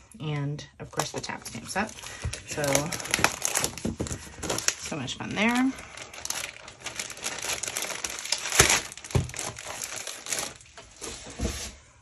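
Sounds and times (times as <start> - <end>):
packaging crinkling: 1.0 - 11.7.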